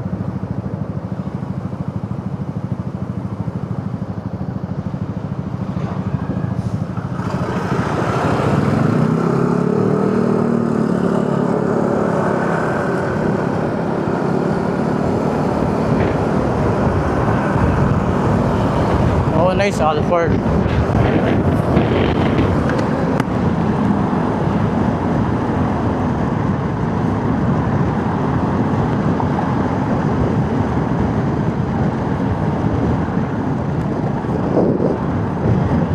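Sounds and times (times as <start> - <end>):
motorcycle engine running: 0.0 - 35.9
road and wind noise: 0.0 - 35.9.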